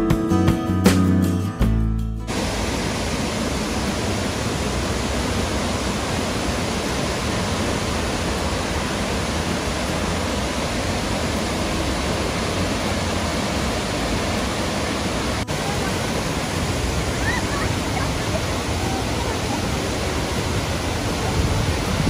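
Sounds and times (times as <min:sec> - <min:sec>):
waterfall rushing: 0:02.3 - 0:22.0.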